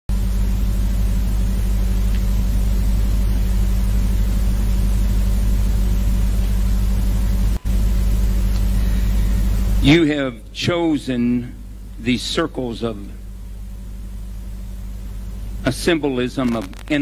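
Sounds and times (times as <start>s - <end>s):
sound system hum and hiss: 0.1s - 17.0s.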